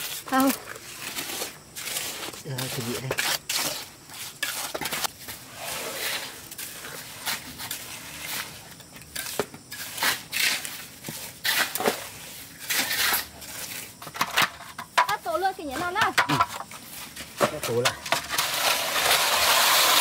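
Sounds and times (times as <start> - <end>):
tools scraping wet mortar: 0.0 - 20.0.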